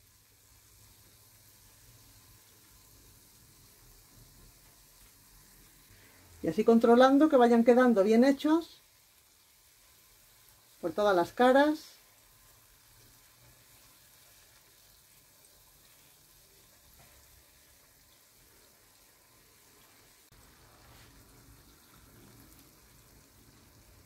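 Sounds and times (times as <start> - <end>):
batter sizzling in hot oil: 0.0 - 24.0.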